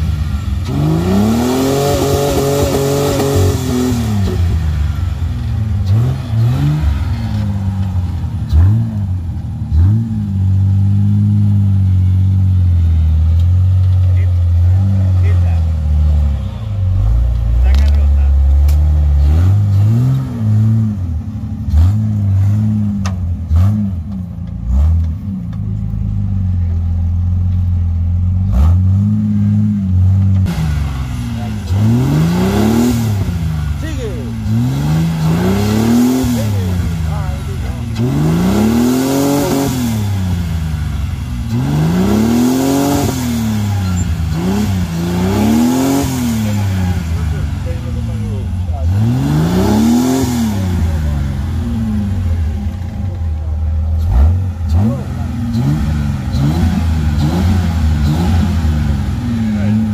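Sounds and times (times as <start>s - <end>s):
off-road engine revving: 0.0s - 59.9s.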